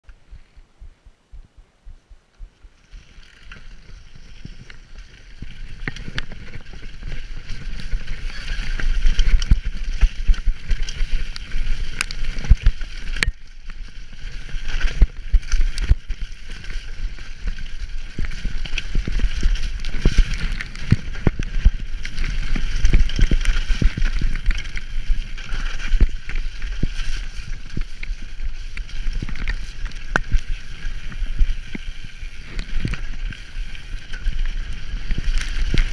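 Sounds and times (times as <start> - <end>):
wind rumbling on microphone: 0.0 - 35.9
tyres on wet dirt: 2.7 - 35.9.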